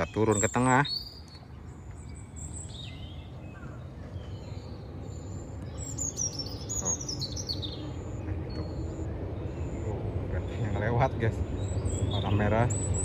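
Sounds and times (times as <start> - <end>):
birds chirping and singing: 0.0 - 13.0
steady low rumble: 0.0 - 13.0.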